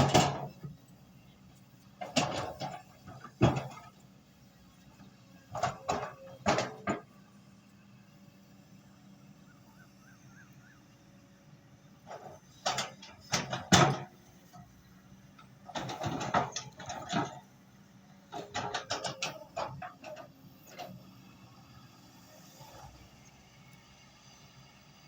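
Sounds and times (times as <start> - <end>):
excavator engine humming: 0.0 - 25.0.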